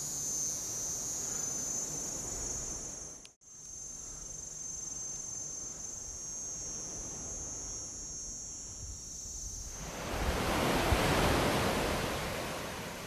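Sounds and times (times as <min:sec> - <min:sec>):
high-pitched insect drone: 0:00.0 - 0:11.8.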